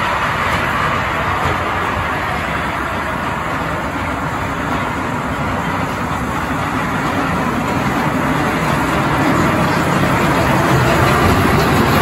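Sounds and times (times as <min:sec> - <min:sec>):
coaster train rumbling on track: 0:00.0 - 0:12.0.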